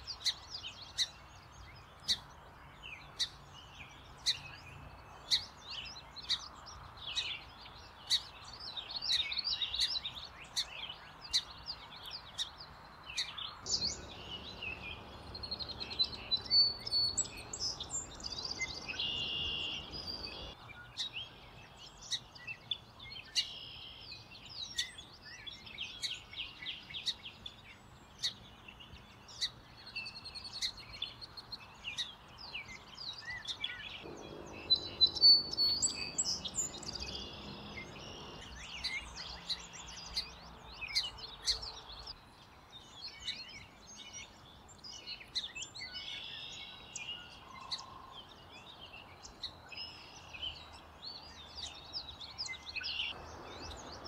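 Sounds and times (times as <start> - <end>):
sparrows singing: 0.0 - 54.0.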